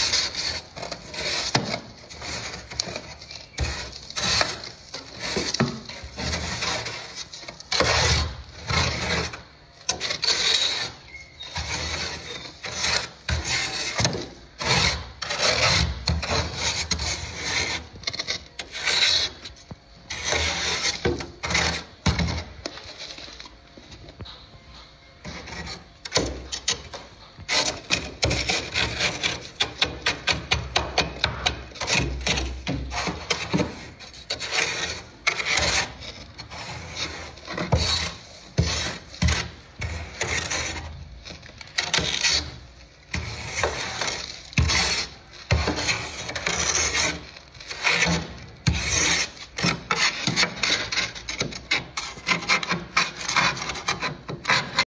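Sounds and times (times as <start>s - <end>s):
scraper scraping frost: 0.0s - 23.6s, 25.2s - 54.8s.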